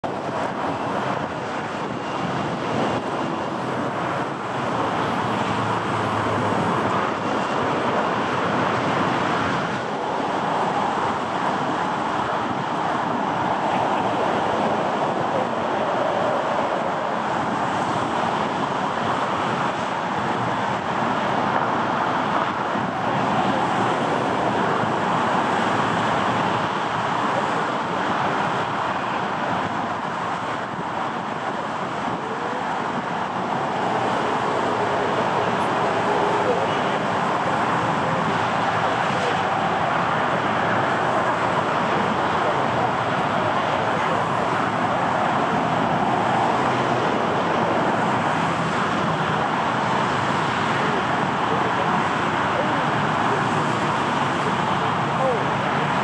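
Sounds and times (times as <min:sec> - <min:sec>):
aircraft ground noise roar: 0:00.0 - 0:56.0.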